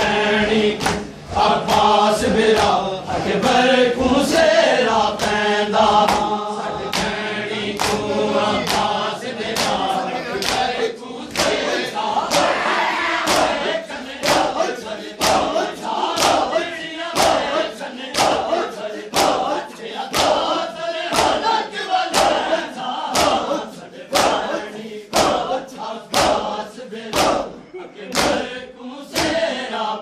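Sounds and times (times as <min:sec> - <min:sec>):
crowd slapping chests in unison: 0:00.0 - 0:29.9
men chanting together: 0:00.0 - 0:30.0.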